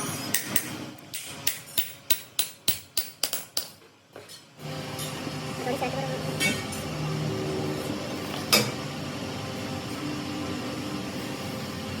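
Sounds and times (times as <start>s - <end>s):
workshop machinery hum: 0.0s - 12.0s.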